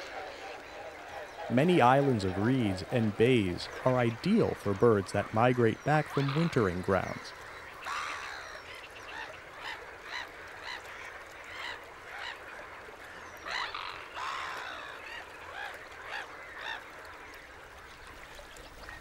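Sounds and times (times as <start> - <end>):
waterfowl calling: 0.0 - 19.0.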